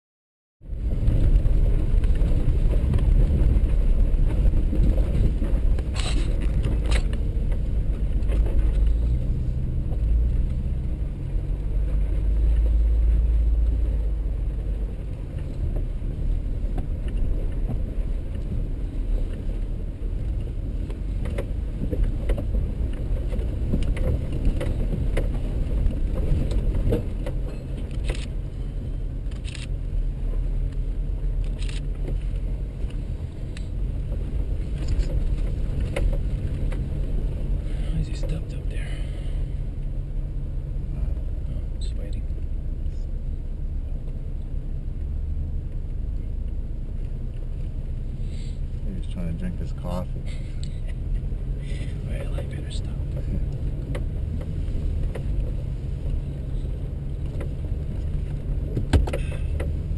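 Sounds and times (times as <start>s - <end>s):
engine and tyre rumble: 0.6s - 59.9s.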